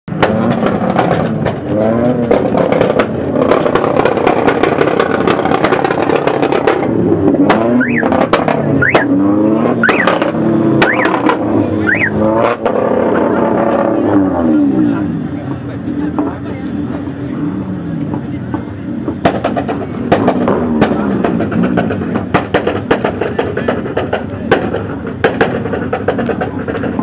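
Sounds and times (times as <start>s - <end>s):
car engine revving: 0.1s - 27.0s.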